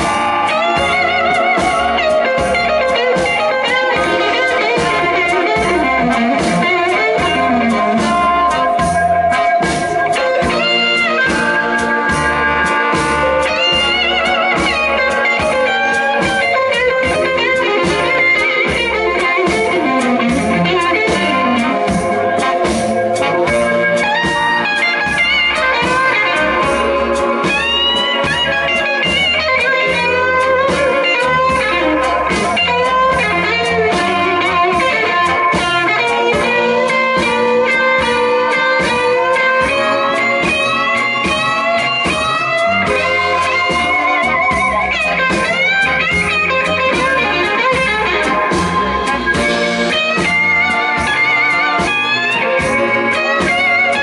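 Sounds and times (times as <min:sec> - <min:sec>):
bass: 0:00.0 - 0:54.0
drums: 0:00.0 - 0:54.0
electric guitar lead: 0:00.0 - 0:54.0.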